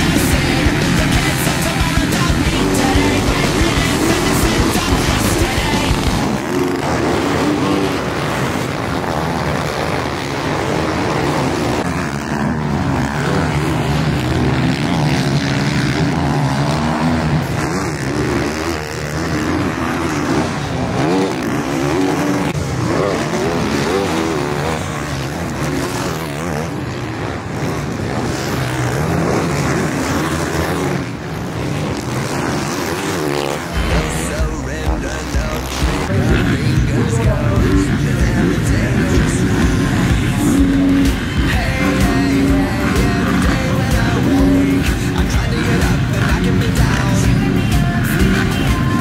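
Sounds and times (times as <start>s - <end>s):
motocross engines revving: 0.0s - 49.0s.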